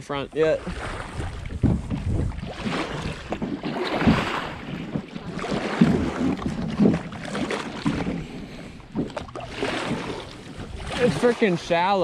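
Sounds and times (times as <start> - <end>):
water sloshing around kayak: 0.0 - 12.0
wind buffeting microphone: 0.0 - 12.0.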